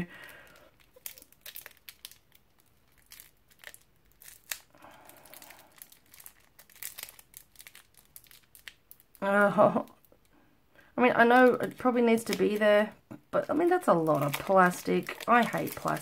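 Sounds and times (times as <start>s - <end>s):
plastic wrapping crinkling: 0.0s - 10.3s, 11.0s - 16.0s.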